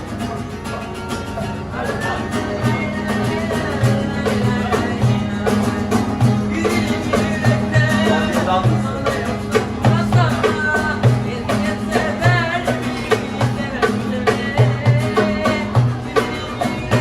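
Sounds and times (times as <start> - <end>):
plucked string instruments: 0.0 - 17.0.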